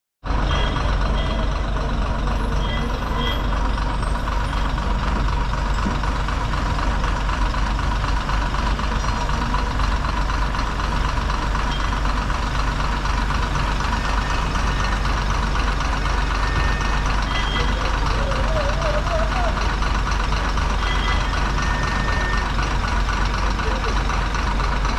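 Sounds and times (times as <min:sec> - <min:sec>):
bus diesel engine idling: 0:00.2 - 0:24.9.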